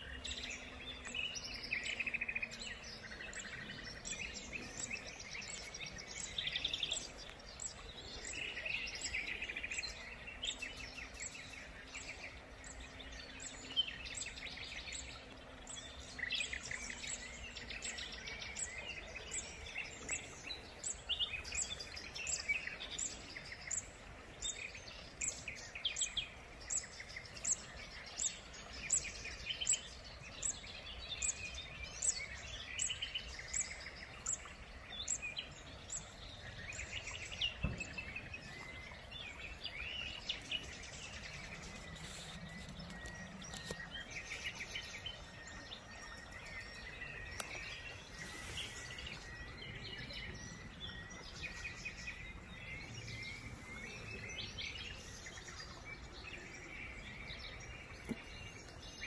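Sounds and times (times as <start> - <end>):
bird chirps: 0.0 - 59.0
birds singing: 0.0 - 59.0.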